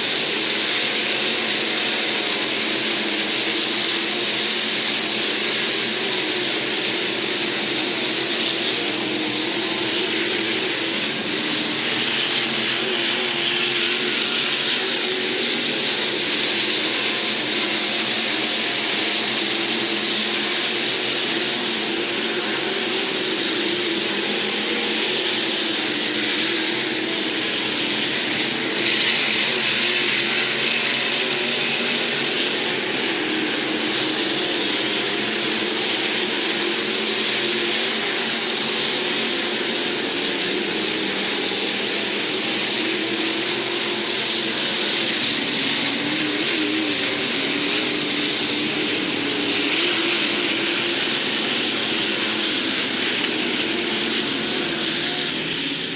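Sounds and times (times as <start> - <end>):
race car engines running: 0.0 - 55.9.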